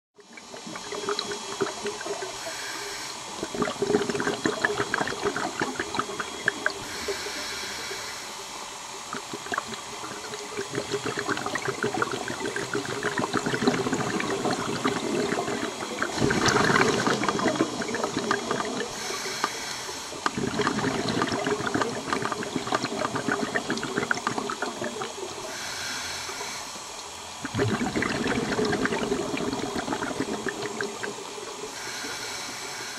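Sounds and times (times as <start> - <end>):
diver exhaling bubbles underwater: 3.2 - 8.1, 9.1 - 26.6, 27.4 - 32.8.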